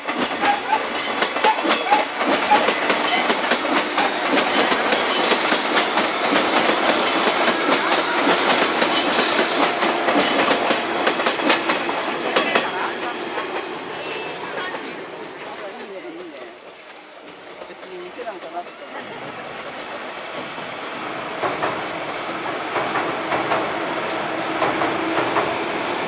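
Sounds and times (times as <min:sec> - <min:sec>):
train wheels clacking over rail joints: 0:00.0 - 0:26.0.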